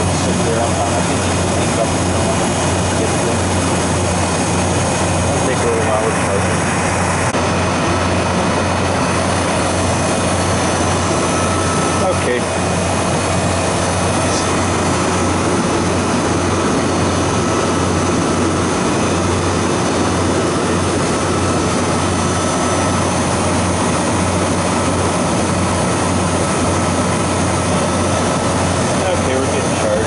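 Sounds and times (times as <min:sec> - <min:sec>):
refrigeration compressor humming: 0:00.0 - 0:30.0.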